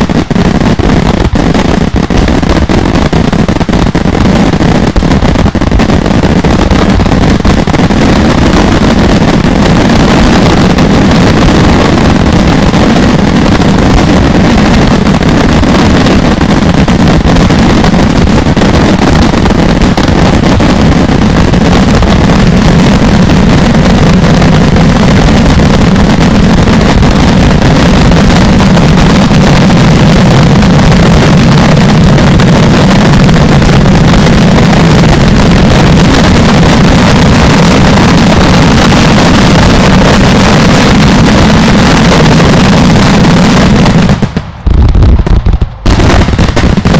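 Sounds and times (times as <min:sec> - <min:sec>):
fireworks barrage: 0:00.0 - 0:46.9.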